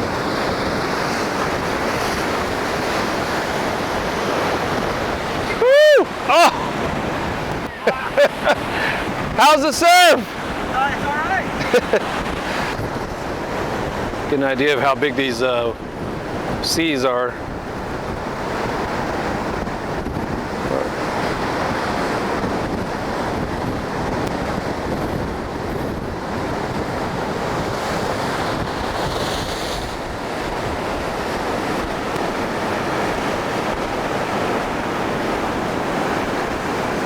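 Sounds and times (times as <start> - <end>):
surf breaking on beach: 0.0 - 37.0
wind blowing across microphone: 0.0 - 37.0.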